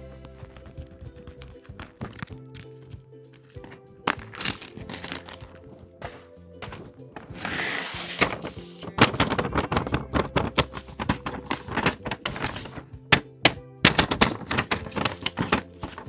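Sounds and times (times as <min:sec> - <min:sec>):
background music: 0:00.0 - 0:16.0
paper pieces tapping on table: 0:00.4 - 0:16.0.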